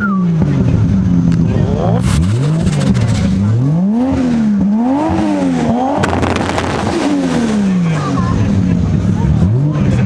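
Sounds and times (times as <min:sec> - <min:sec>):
car engine revving: 0:00.2 - 0:10.0.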